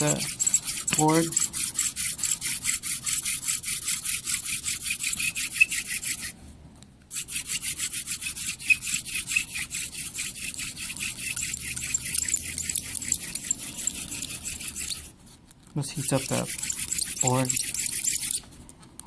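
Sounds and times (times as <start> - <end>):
hand drill rasping on wood: 0.0 - 6.3, 7.1 - 15.1, 16.0 - 18.4.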